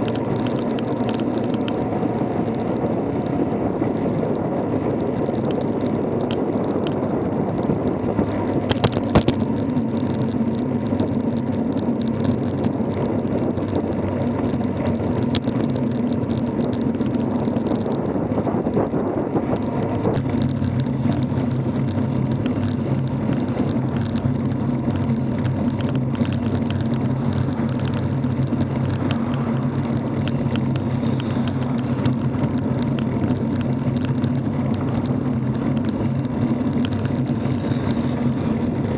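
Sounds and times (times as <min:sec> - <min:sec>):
sharp clicks and rattles: 0:00.0 - 0:38.9
tyres rolling on asphalt: 0:00.0 - 0:38.9
wind buffeting microphone: 0:00.0 - 0:38.9.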